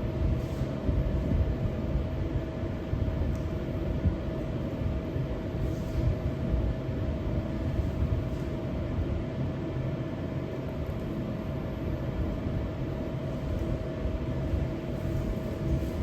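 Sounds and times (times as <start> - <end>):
machine humming and rumbling: 0.0 - 16.0.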